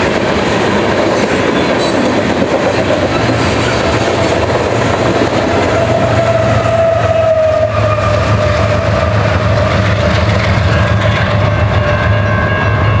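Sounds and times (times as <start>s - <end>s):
wheels on rail: 0.0s - 13.0s.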